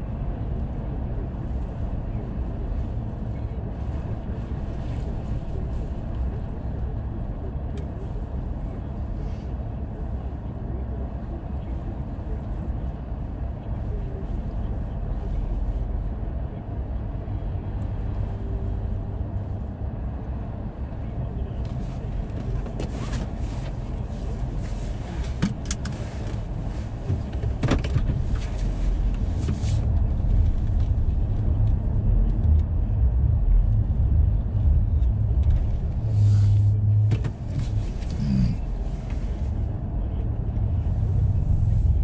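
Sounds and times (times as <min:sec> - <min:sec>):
car interior rumble: 0:00.0 - 0:42.0.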